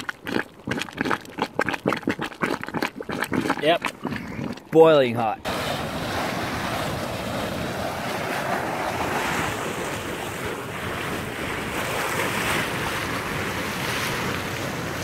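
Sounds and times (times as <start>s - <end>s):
hot spring venting steam: 0.0s - 15.0s.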